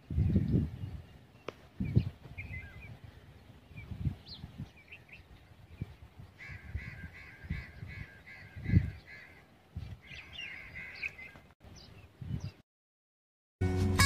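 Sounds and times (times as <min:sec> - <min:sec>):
birds chirping: 0:00.0 - 0:12.6
repeated bird calls: 0:00.0 - 0:12.6.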